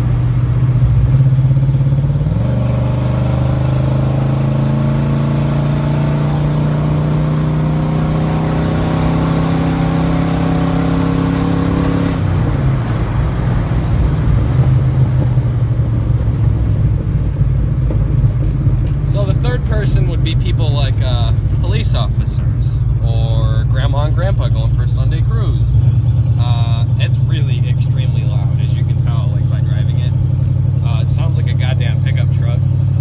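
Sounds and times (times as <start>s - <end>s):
loud car engine accelerating: 0.0s - 33.0s.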